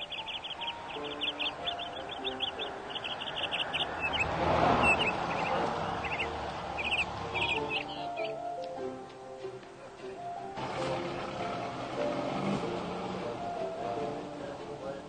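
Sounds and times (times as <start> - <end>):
small birds chirping: 0.0 - 12.6
soft background music: 0.0 - 15.0.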